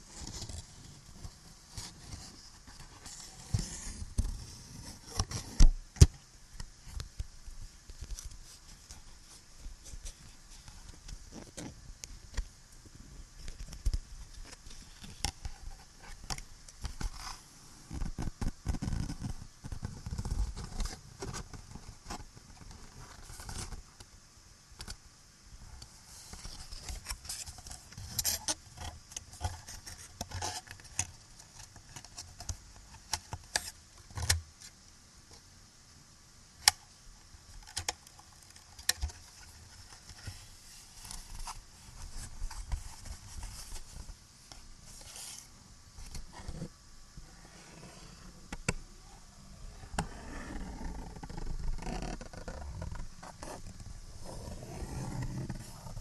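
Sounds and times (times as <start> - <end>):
recording hiss: 0.0 - 56.0.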